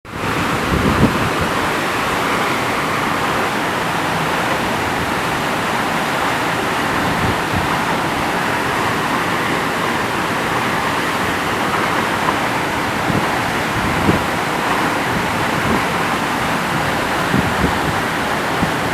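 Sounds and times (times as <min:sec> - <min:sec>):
waterfall rushing water: 0:00.1 - 0:18.9.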